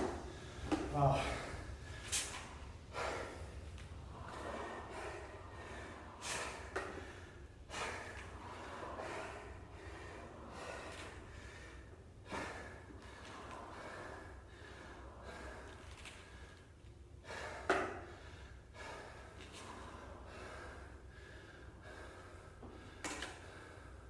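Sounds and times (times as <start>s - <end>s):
man breathing hard: 0.0s - 24.0s.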